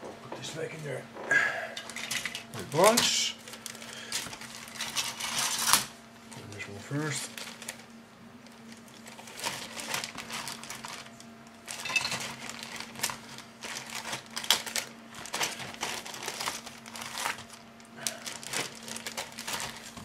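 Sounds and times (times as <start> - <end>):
plastic bags crinkling: 1.9 - 6.0, 6.6 - 20.0.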